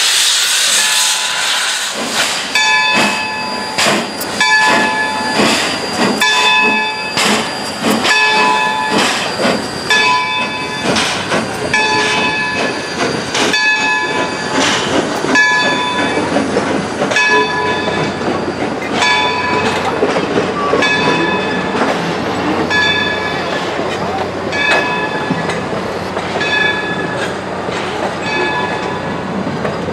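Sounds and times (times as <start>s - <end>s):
train wheels clicking over rail joints: 0.0s - 29.9s
locomotive bell ringing: 2.5s - 25.7s, 26.3s - 29.4s.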